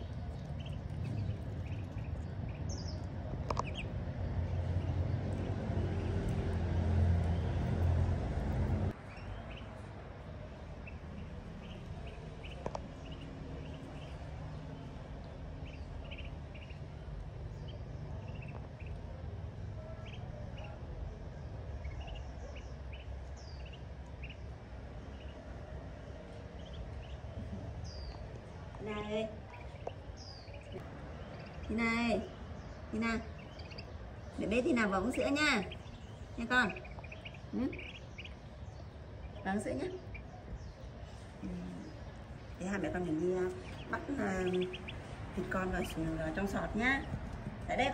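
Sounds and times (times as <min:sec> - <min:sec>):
ducklings peeping: 0:00.0 - 0:47.9
low rumble: 0:00.0 - 0:47.9.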